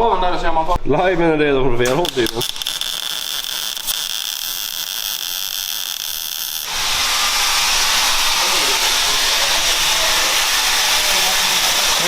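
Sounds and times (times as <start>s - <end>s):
power tool cutting pipe: 1.9s - 12.0s.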